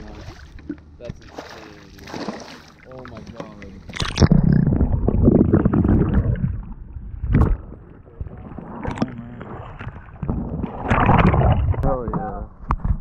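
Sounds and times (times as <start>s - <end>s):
muffled underwater splashing: 0.0s - 13.0s.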